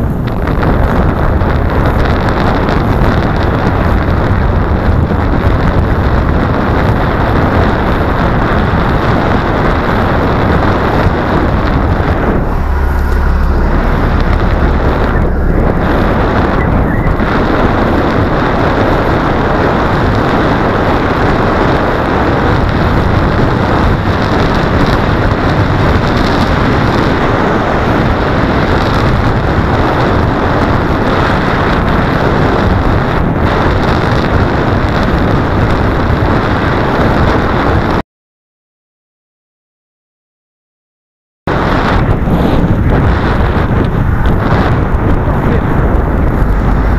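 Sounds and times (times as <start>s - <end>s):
wind rushing over microphone: 0.0s - 38.0s, 41.5s - 46.9s.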